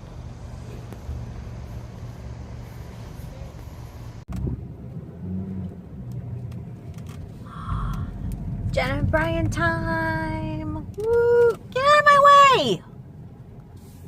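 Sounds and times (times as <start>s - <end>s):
low rumble: 0.0s - 11.8s
car cabin noise while driving: 0.0s - 14.0s.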